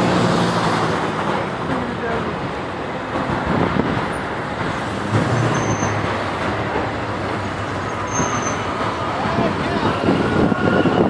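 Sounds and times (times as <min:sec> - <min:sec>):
street traffic noise: 0:00.0 - 0:11.0
vehicle engine humming: 0:00.0 - 0:11.0.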